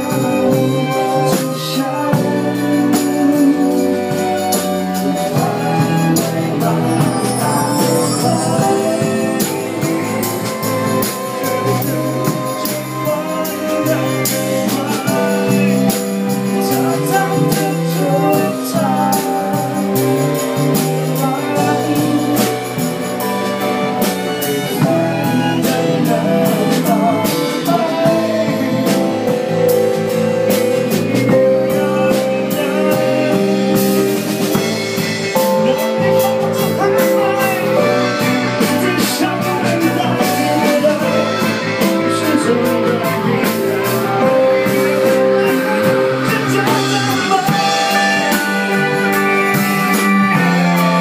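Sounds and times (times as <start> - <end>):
man singing: 0.0 - 51.0
rock band with strings playing: 0.0 - 51.0.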